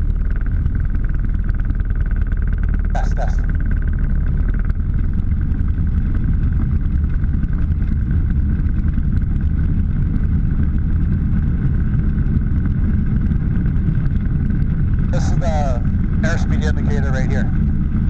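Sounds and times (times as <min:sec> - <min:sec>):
aircraft engine drone with whine: 0:00.0 - 0:18.0.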